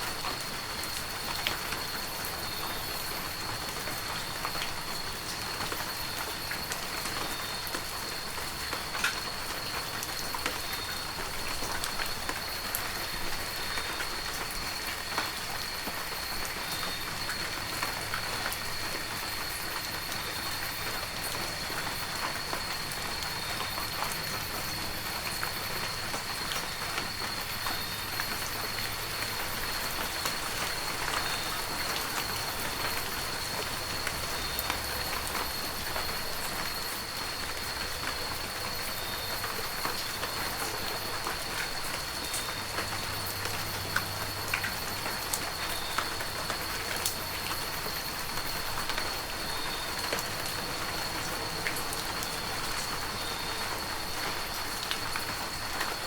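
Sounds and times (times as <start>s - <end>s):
heavy rain falling: 0.0s - 56.0s
raindrops ticking: 0.3s - 56.0s.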